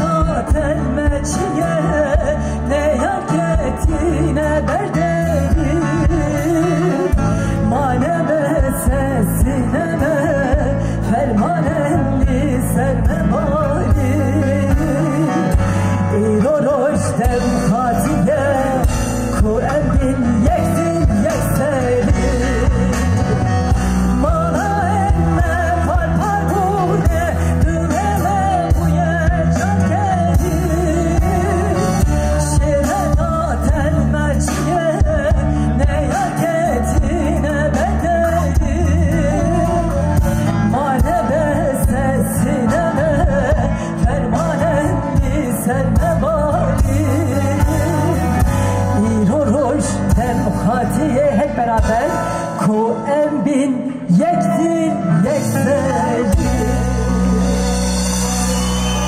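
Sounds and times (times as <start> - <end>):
full band playing: 0.0 - 59.0
person singing: 0.0 - 59.0.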